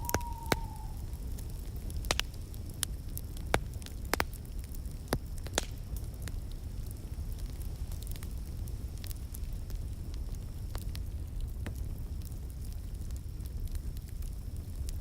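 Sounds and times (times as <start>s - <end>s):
low rumble of burning: 0.0s - 15.0s
wood fire crackling: 0.0s - 15.0s.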